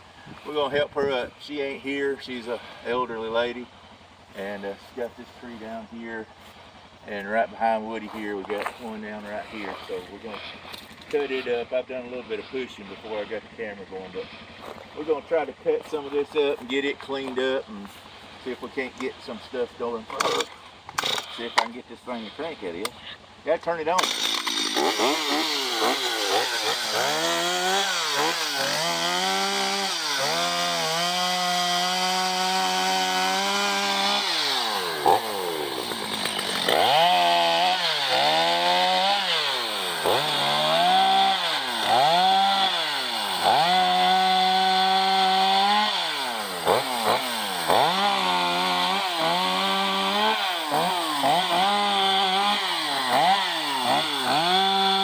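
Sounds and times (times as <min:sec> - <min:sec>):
chainsaw revving: 0:00.4 - 0:55.0.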